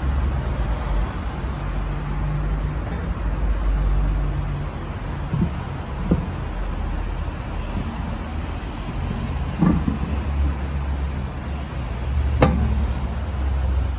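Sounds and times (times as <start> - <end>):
low vehicle rumble: 0.0 - 13.9.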